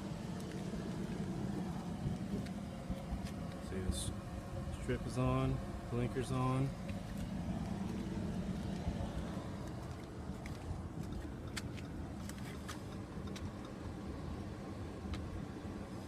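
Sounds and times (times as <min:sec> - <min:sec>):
car engine low rumble: 0:00.0 - 0:16.0.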